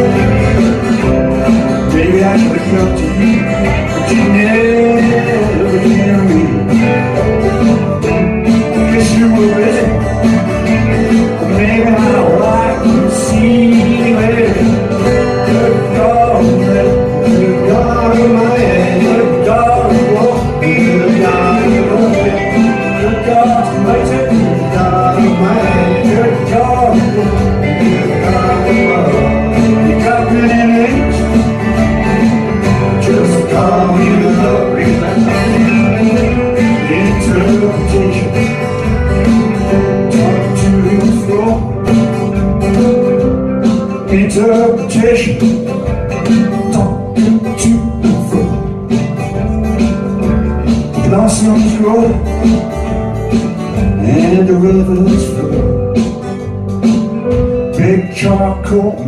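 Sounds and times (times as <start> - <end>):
drums: 0.0 - 59.0
electric guitars: 0.0 - 59.0
strummed acoustic guitar: 0.0 - 59.0.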